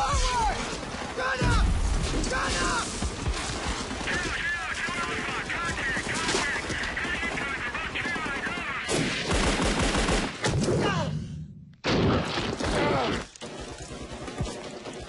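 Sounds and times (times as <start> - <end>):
rifle and machine-gun fire: 0.5 - 10.4, 12.0 - 15.0.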